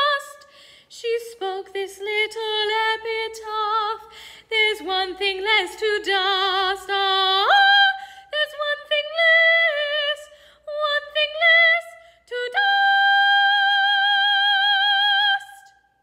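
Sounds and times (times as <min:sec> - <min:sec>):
woman singing classical: 0:00.0 - 0:15.9.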